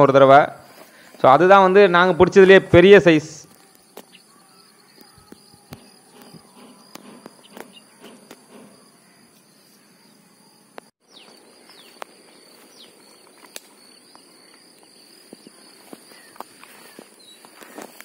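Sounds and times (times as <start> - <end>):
bird chirps: 3.4 - 18.0.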